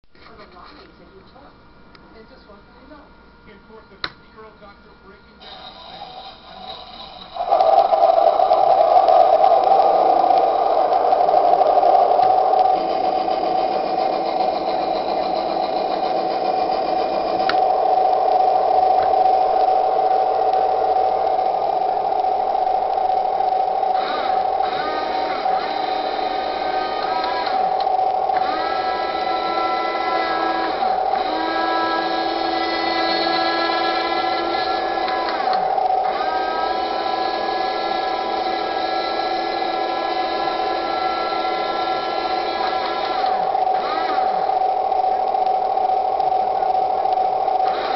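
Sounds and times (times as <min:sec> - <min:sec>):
electric motors whining: 0:05.4 - 0:47.9.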